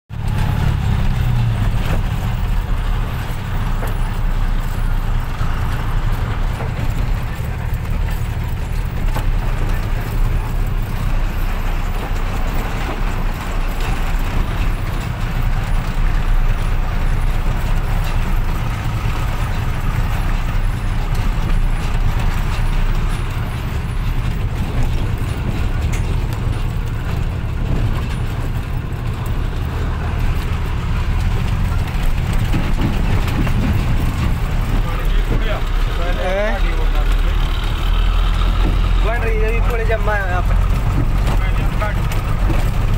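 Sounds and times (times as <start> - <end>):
road noise: 0.1 - 42.9
truck engine running: 0.1 - 42.9.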